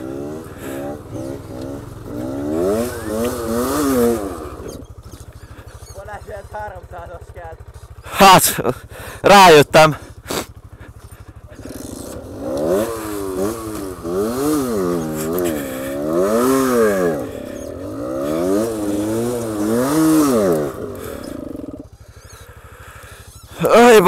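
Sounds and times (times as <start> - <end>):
engine idling and revving: 0.0 - 24.0.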